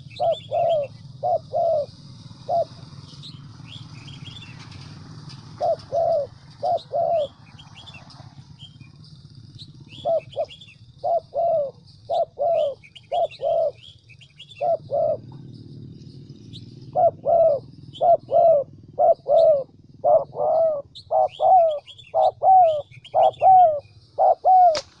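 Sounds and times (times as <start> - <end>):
dove cooing: 0.0 - 25.0
small birds chirping: 0.0 - 25.0.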